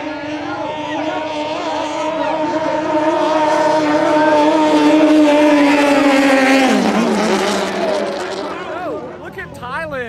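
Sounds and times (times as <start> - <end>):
boat engines at high revs: 0.0 - 10.0.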